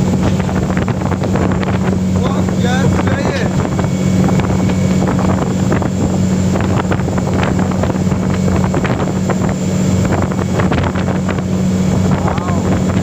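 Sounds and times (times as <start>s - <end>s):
low engine hum: 0.0s - 13.0s
wind buffeting microphone: 0.0s - 13.0s.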